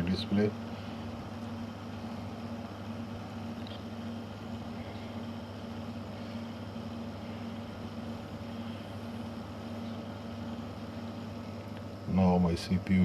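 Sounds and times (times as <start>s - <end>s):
faint pulsing tone: 0.0s - 13.0s
fan hum: 0.0s - 13.0s
low electrical drone: 0.0s - 13.0s.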